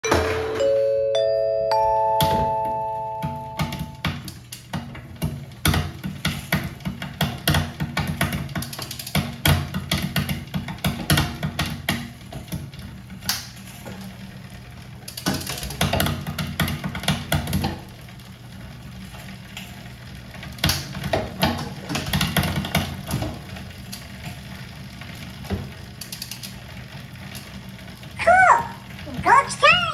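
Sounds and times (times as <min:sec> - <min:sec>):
bike chain and derailleur clattering: 0:04.1 - 0:28.2, 0:28.8 - 0:29.2.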